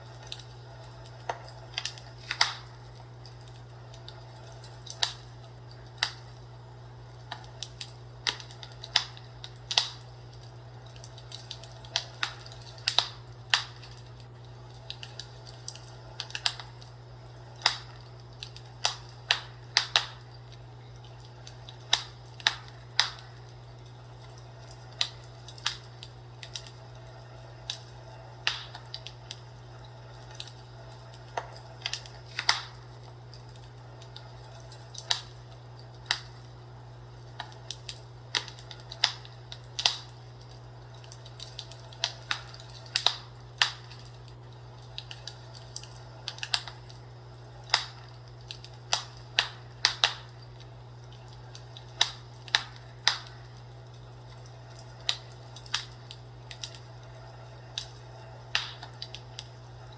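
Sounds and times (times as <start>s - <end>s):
fireplace crackling: 0.0s - 59.9s
steady low hum: 0.0s - 59.9s.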